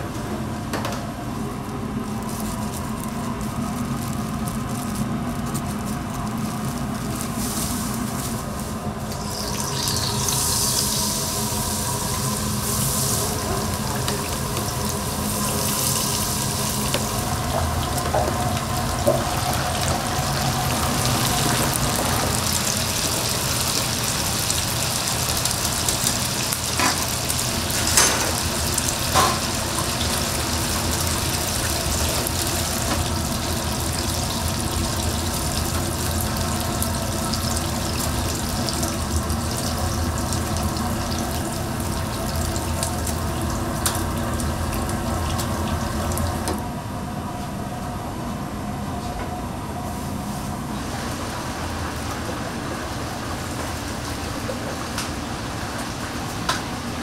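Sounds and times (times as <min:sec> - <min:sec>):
oil sizzling in a deep fryer: 0:01.3 - 0:46.6, 0:49.9 - 0:57.0.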